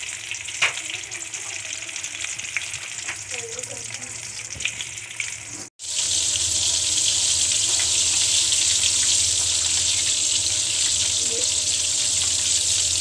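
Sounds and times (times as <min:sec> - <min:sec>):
chicken deep-frying in fat: 0:00.0 - 0:13.0.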